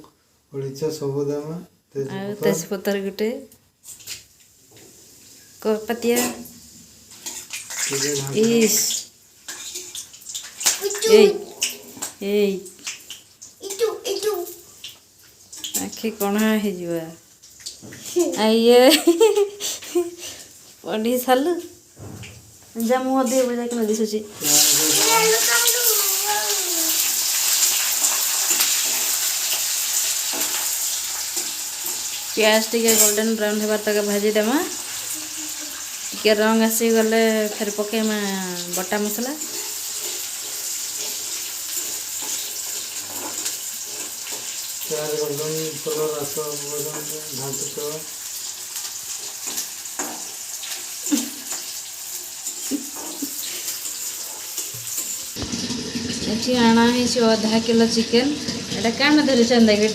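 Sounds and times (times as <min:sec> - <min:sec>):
onions sizzling in oil: 0:03.8 - 0:59.9.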